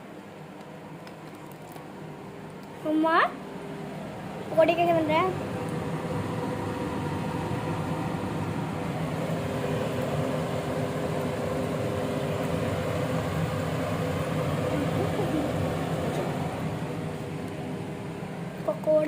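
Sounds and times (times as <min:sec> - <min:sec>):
motor or fan whirring: 0:00.0 - 0:19.0.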